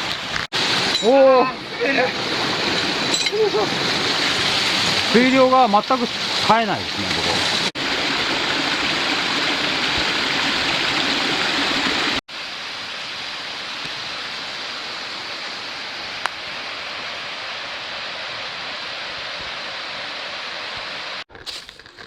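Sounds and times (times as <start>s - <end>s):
rushing mountain stream: 0.0s - 21.2s.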